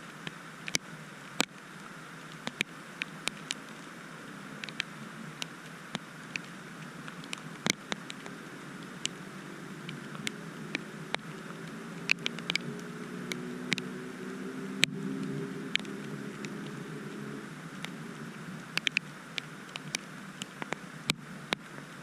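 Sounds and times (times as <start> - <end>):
light steady rain hiss: 0.0 - 22.0
low vehicle engine hum: 0.0 - 22.0
raindrops ticking: 0.0 - 22.0.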